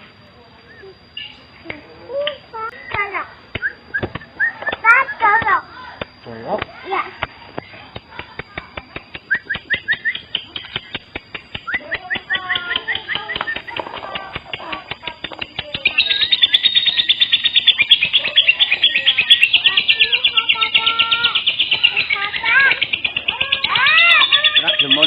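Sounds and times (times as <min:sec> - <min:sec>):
lovebird chattering: 0:00.6 - 0:25.0.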